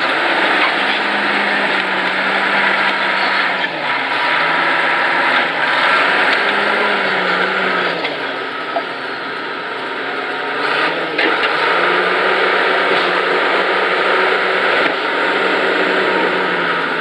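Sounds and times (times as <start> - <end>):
dozer diesel engine running: 0.0 - 17.0.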